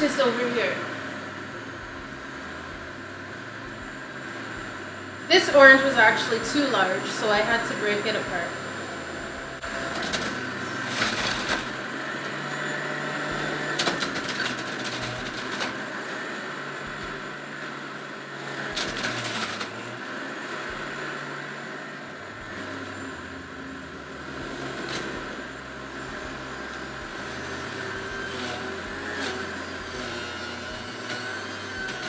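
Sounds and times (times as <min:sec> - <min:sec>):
juicer grinding fruit: 0:00.0 - 0:32.0
juicer motor running: 0:00.0 - 0:32.0.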